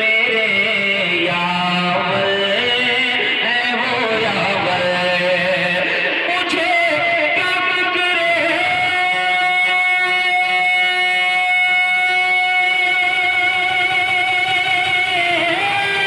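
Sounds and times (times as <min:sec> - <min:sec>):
man singing amplified long note: 0:00.0 - 0:16.0.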